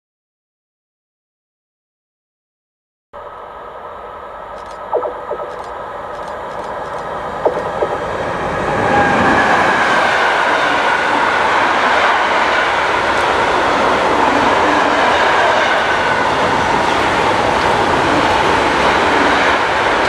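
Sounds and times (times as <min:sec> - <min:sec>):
freight train rolling past: 0:03.2 - 0:20.0.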